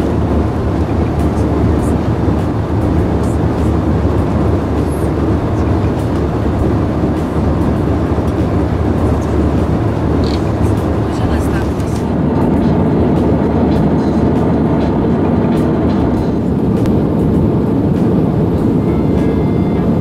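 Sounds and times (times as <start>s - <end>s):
airplane cabin rumble: 0.0s - 20.0s
hiss of engines and airflow: 0.0s - 20.0s.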